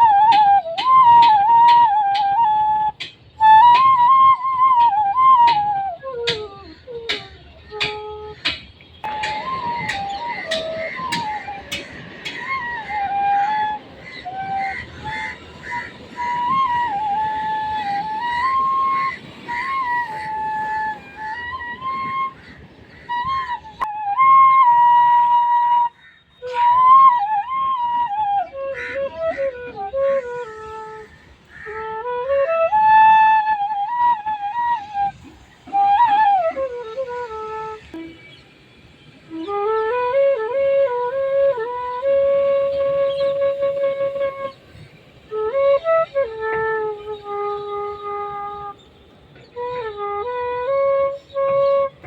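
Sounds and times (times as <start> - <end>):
flute playing slow melody: 0.0 - 52.0.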